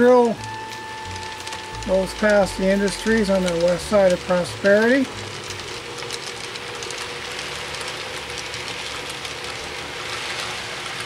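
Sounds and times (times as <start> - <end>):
model train cars rolling on track: 0.0 - 11.0.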